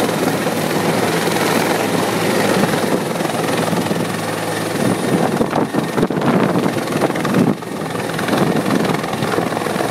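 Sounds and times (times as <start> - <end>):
helicopter hovering overhead: 0.0 - 9.9.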